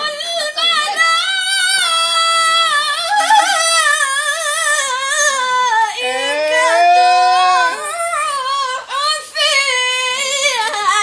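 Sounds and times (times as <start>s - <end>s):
child chanting melodically: 0.0s - 11.0s.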